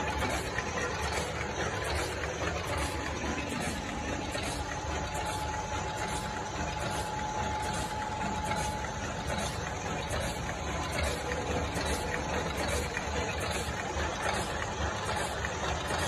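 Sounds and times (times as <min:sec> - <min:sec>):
faint machine whine: 0:00.0 - 0:16.0
packing machine clatter: 0:00.0 - 0:16.0.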